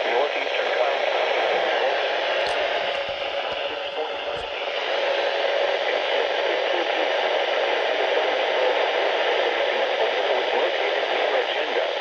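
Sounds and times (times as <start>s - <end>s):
spoken radio broadcast: 0.0s - 12.0s
radio static hiss: 0.1s - 12.0s.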